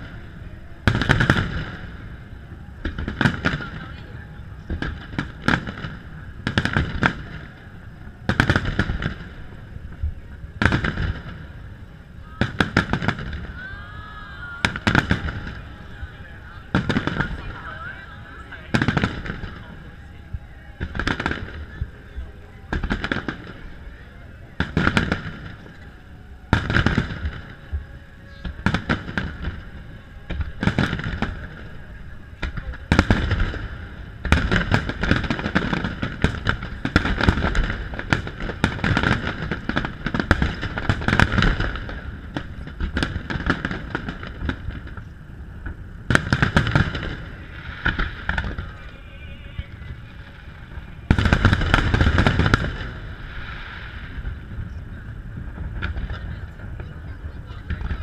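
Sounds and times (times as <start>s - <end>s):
firework bangs with crackle: 0.0s - 58.0s.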